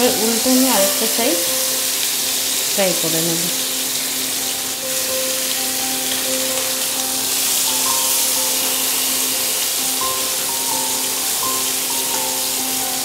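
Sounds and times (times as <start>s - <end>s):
chicken sizzling in hot oil: 0.0s - 13.0s
soft background music: 0.0s - 13.0s.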